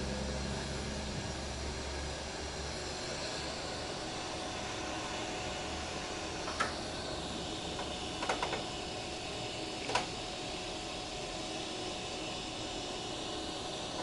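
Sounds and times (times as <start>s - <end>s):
outdoor background hiss and hum: 0.0s - 14.0s.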